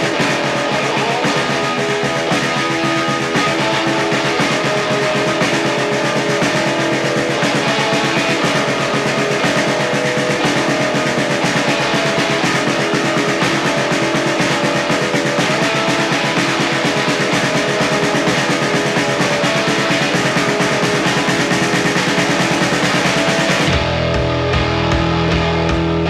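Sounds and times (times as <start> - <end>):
drum kit beat: 0.0 - 26.0
electric guitars: 0.0 - 26.0.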